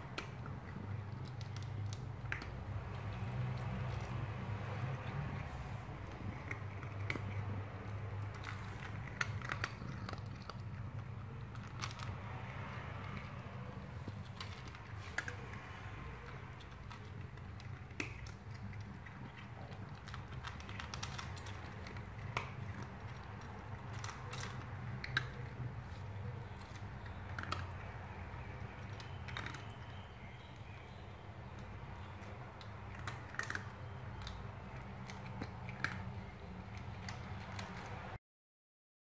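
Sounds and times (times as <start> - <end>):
cat crunching dry kibble: 0.0 - 38.2.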